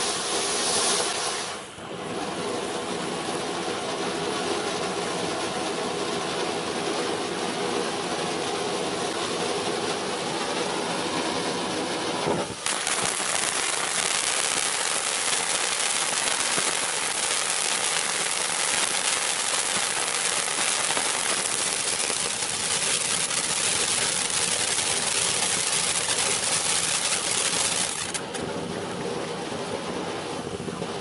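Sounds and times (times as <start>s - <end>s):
fountain firework hissing and crackling: 0.0s - 31.0s.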